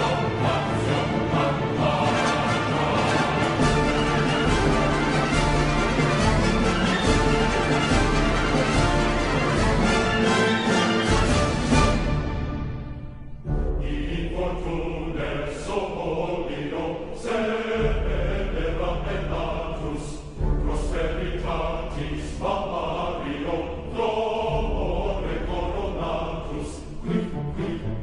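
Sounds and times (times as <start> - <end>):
choir chanting: 0.0 - 28.0.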